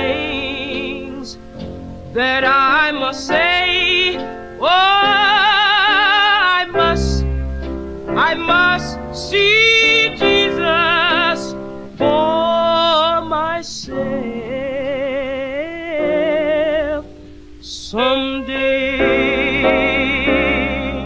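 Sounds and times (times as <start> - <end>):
person singing gospel with vibrato: 0.0 - 7.5, 8.1 - 21.0
backing accompaniment: 0.0 - 17.3, 18.0 - 21.0.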